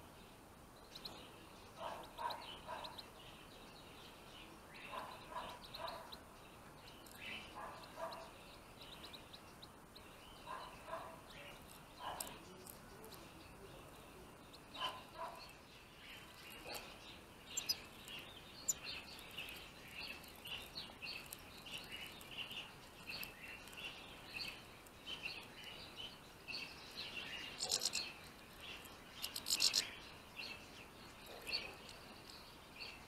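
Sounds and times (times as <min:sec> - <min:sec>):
finches chirping and twittering: 0:00.1 - 0:33.0.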